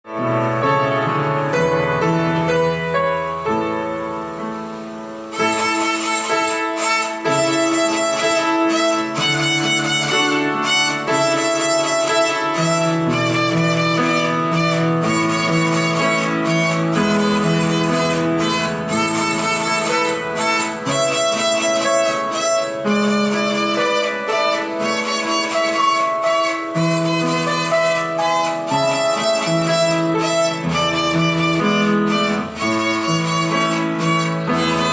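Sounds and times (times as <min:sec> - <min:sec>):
lower-pitched accompaniment: 0:00.0 - 0:34.9
violin melody: 0:00.0 - 0:34.9.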